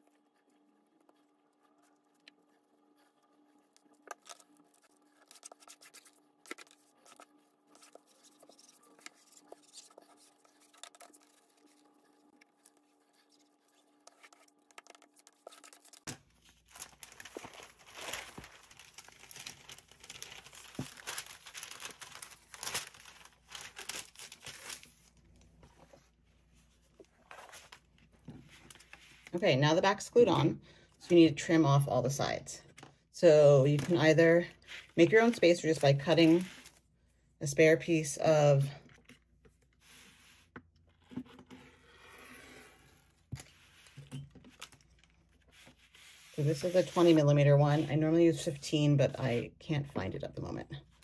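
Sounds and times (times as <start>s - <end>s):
paper rustling and scraping: 0.4s - 29.4s, 33.7s - 36.8s, 39.0s - 48.5s.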